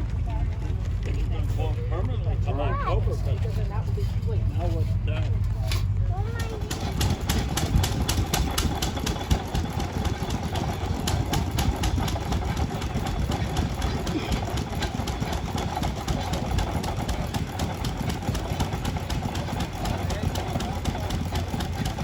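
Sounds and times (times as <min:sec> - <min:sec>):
engine knocking over low rumble: 0:00.0 - 0:22.0.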